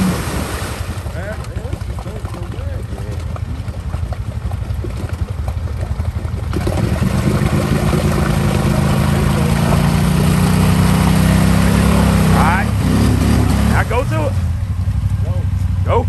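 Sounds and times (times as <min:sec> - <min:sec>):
atv engine revving: 0:00.0 - 0:16.0
wheels churning through mud: 0:00.0 - 0:16.0.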